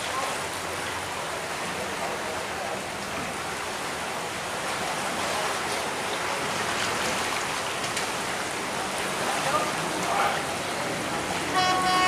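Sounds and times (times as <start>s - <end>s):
water rushing through sluice gate: 0.0s - 12.0s.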